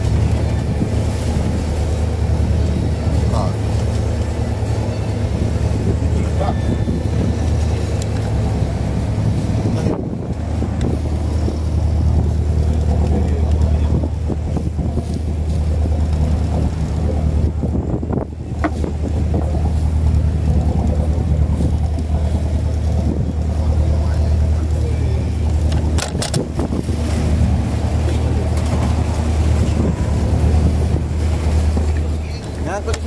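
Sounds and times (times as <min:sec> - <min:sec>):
boat motor humming: 0:00.0 - 0:33.0.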